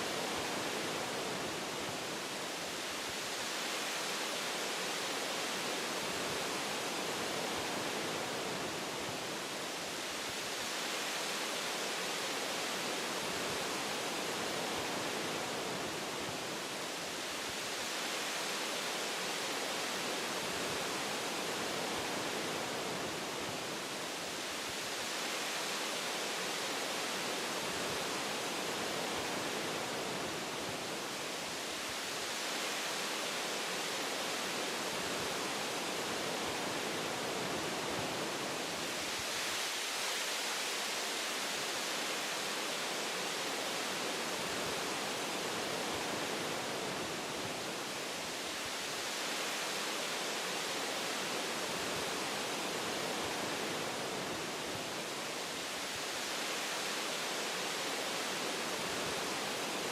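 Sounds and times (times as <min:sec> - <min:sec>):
wind rushing through tree branches: 0:00.0 - 0:59.9.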